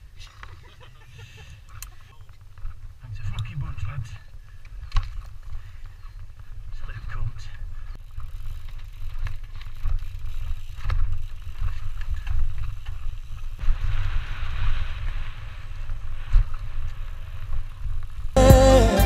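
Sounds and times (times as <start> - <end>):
bike rattling over bumps: 2.0 - 18.4.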